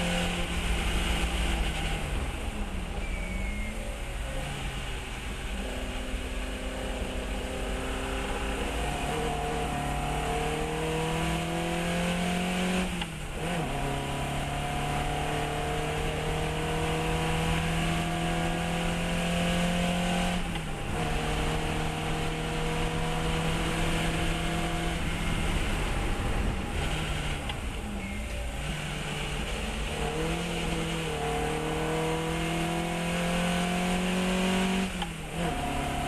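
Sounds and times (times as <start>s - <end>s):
engine blips on downshifts: 0.0s - 36.0s
race car engine accelerating: 4.2s - 36.0s.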